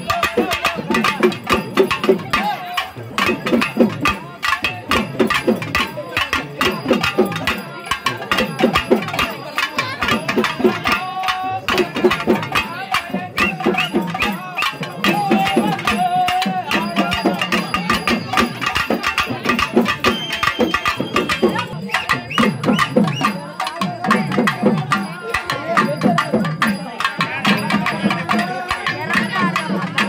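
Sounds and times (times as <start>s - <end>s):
crowd voices: 0.0s - 30.0s
drums beaten fast: 0.0s - 30.0s.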